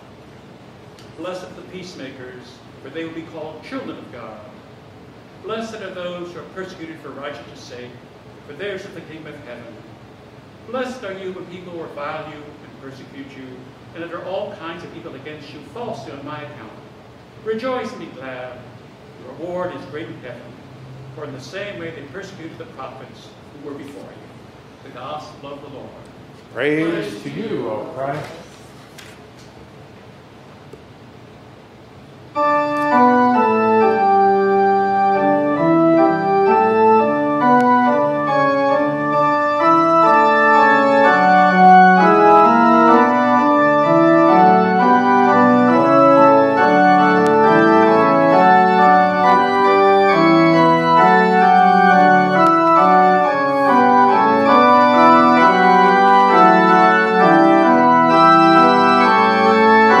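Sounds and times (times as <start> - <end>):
organ playing sustained chords: 0.0 - 25.9, 32.2 - 60.0.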